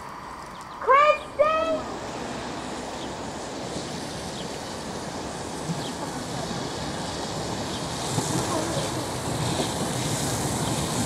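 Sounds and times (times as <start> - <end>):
train wheels rushing on rails: 0.0 - 11.0.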